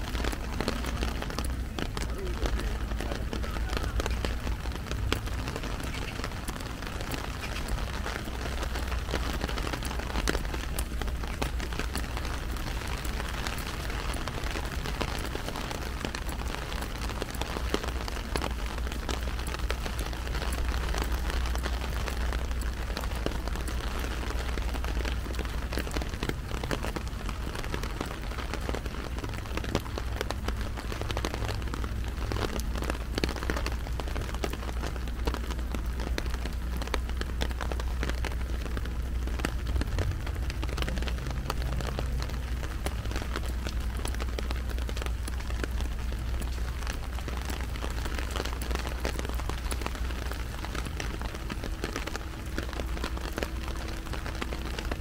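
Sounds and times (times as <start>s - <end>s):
heavy rain pattering on umbrella: 0.0s - 55.0s
low steady rumble: 0.0s - 55.0s.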